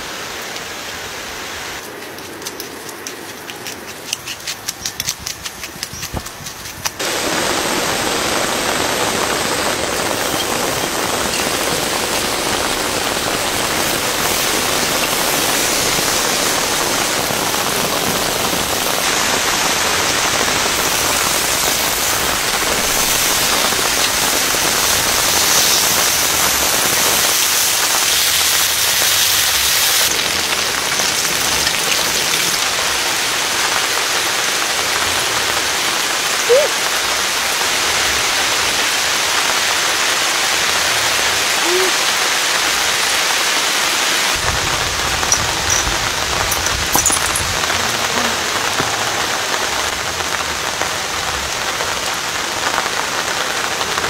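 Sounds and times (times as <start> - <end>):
rain pattering on a tent: 5.4 - 54.0.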